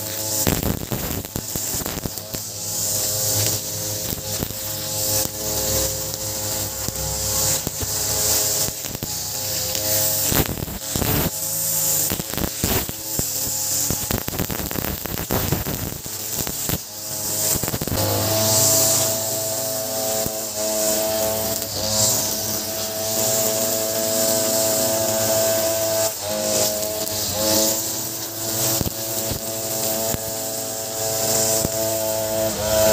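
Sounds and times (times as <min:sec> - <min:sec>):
brush cutter engine whine: 0:00.0 - 0:32.9.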